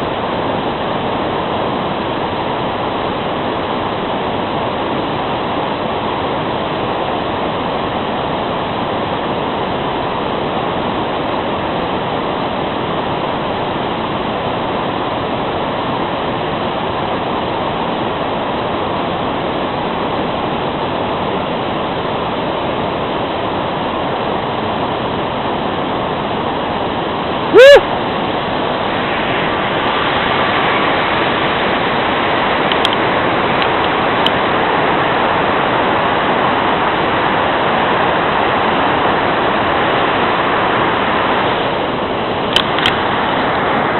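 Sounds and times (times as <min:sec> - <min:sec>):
steady rushing noise: 0:00.0 - 0:43.9.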